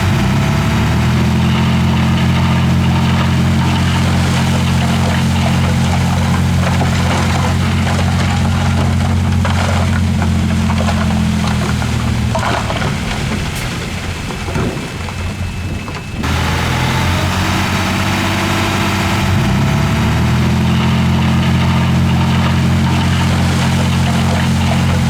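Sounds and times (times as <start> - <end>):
diesel engine low drone: 0.0 - 25.0.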